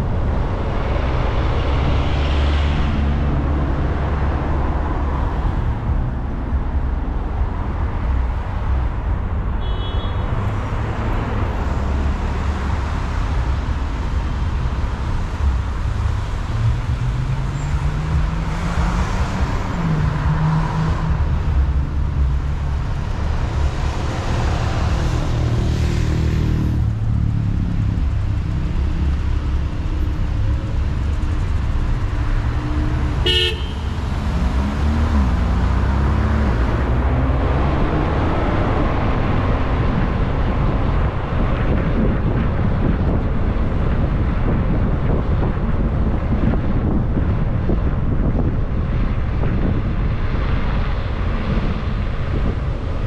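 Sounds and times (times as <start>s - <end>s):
road rumble: 0.0s - 53.0s
car engine: 10.4s - 53.0s.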